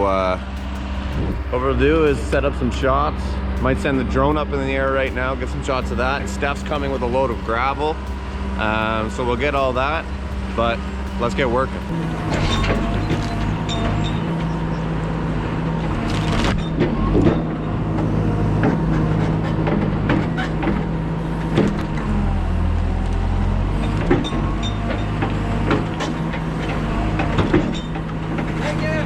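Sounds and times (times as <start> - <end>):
heavy diesel engine running: 0.0 - 29.0
knocks and clanks: 0.0 - 29.0.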